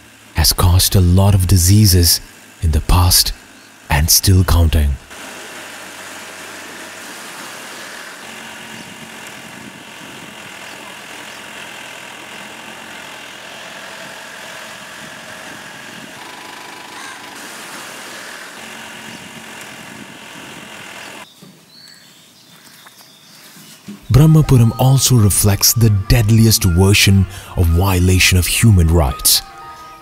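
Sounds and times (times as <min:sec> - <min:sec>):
vehicle engine running: 0:00.0 - 0:21.3, 0:24.1 - 0:28.7.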